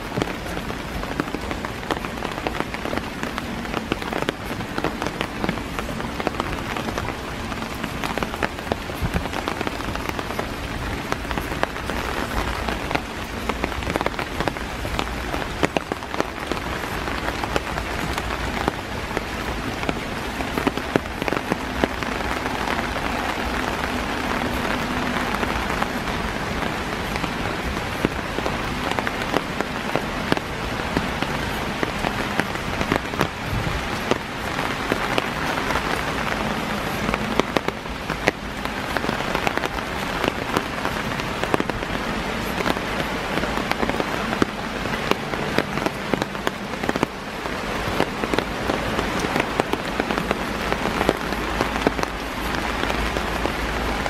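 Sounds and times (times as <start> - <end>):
rain pattering through trees: 0.0 - 54.0.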